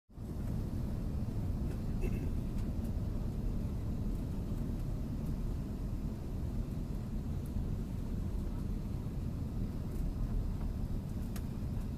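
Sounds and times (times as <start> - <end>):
aircraft cabin engine rumble: 0.1 - 11.9.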